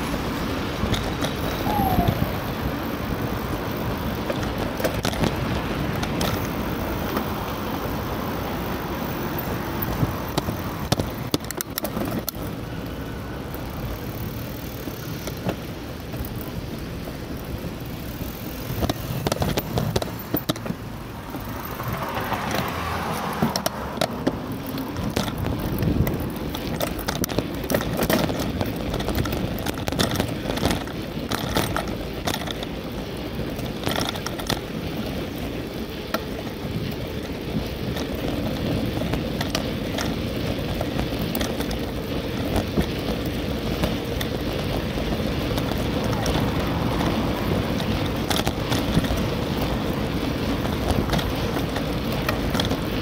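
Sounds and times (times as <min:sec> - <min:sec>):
bicycle clicks and rattles: 0:00.0 - 0:53.0
road and wind rumble: 0:00.0 - 0:53.0.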